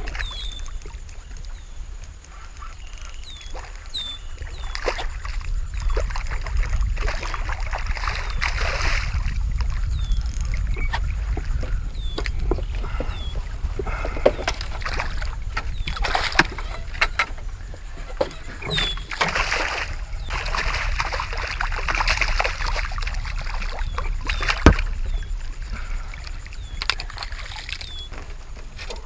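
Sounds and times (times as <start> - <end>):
water splashing beside boat: 0.0 - 29.0.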